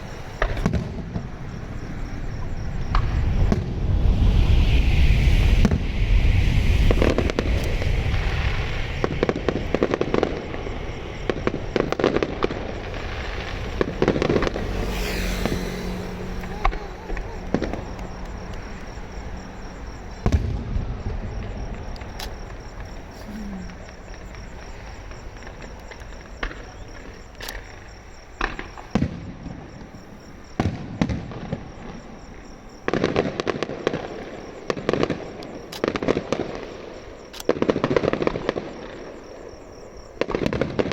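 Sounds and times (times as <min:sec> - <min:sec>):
fireworks bursting with bangs: 0:00.0 - 0:40.9
fireworks crackle: 0:00.0 - 0:40.9.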